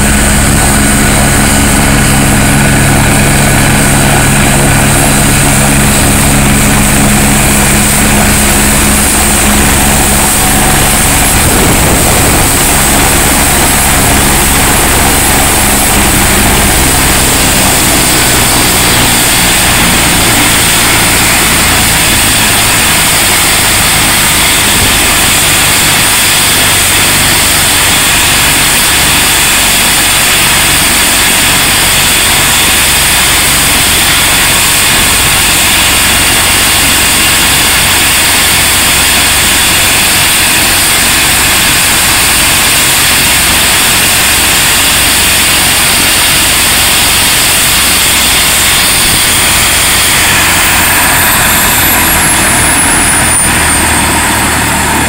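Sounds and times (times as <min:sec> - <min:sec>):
helicopter turbine whine: 0:00.0 - 0:55.0
low engine and rotor hum: 0:00.0 - 0:55.0.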